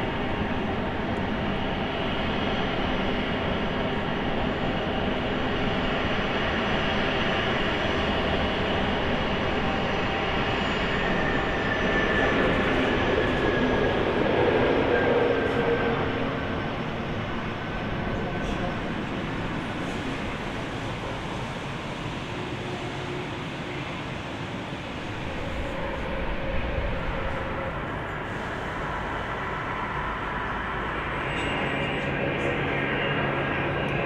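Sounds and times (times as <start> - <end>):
jet engines idling: 0.0 - 34.0.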